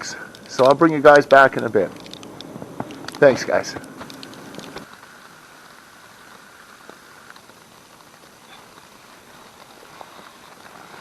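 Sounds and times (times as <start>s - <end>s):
faint steady hiss: 0.0s - 11.0s
light scattered ticks: 0.0s - 11.0s.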